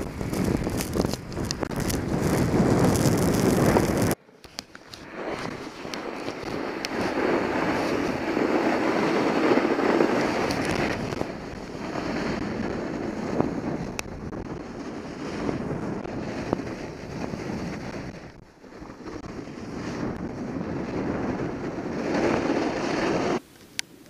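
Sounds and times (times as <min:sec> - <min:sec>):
wind buffeting microphone: 0:00.0 - 0:04.2, 0:04.8 - 0:23.4
snowboard scraping over snow: 0:00.0 - 0:23.4.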